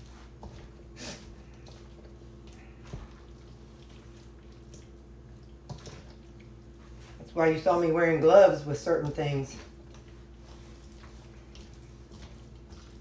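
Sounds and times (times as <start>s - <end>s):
spoon stirring wet salad: 0.0s - 7.3s, 8.8s - 13.0s
low steady hum: 0.0s - 13.0s.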